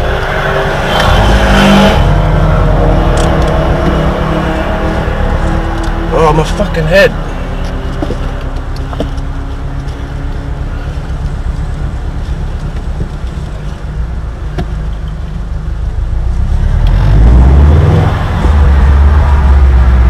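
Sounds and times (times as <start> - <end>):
car engine rumble from cabin: 0.0 - 20.0.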